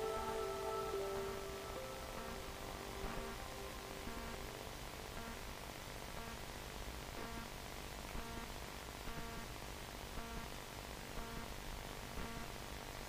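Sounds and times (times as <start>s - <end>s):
faint background music: 0.0s - 13.0s
steady hiss: 0.0s - 13.0s.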